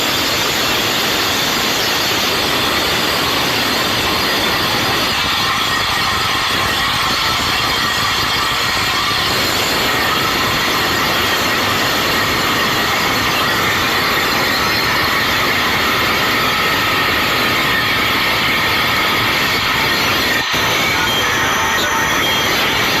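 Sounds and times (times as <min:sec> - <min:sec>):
high whine: 0:00.0 - 0:23.0
wood lathe cutting: 0:00.0 - 0:23.0.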